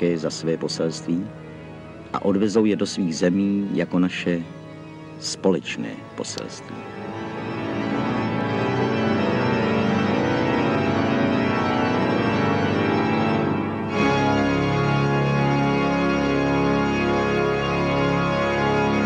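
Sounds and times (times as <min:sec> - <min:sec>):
organ-like sustained chords: 0:00.0 - 0:19.0.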